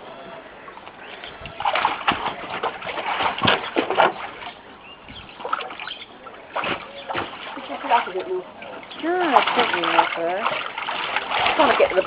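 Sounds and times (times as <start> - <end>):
water splashing in paddling pool: 0.0 - 12.0.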